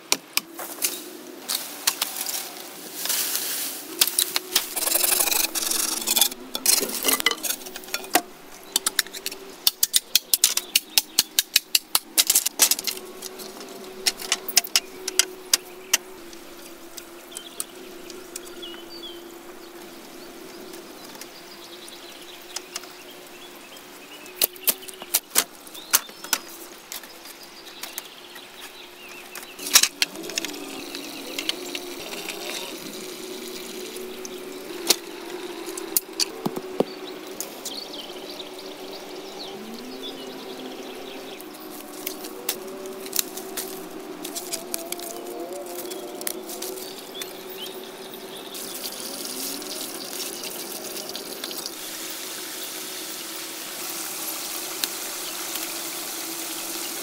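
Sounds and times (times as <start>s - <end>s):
faint steady drone: 0.0s - 57.0s.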